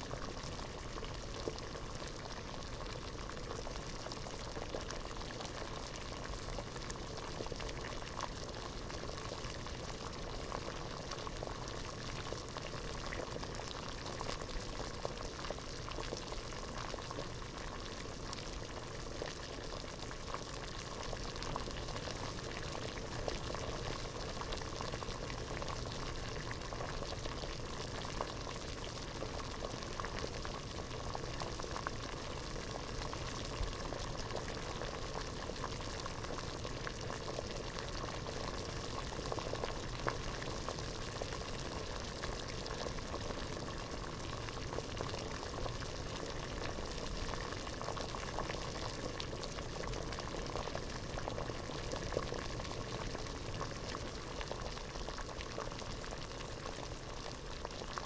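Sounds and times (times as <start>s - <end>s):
water boiling in a pot: 0.0s - 58.0s.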